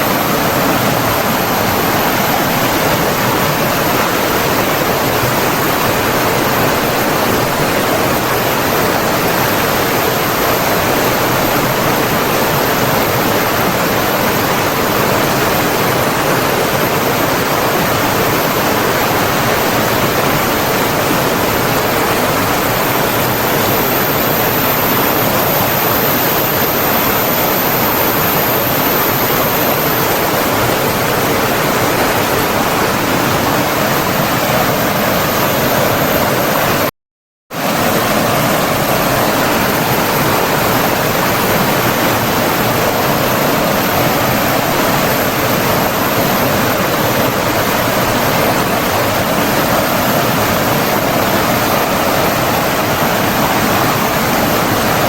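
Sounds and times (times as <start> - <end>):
rushing water: 0.0 - 36.9, 37.6 - 55.0.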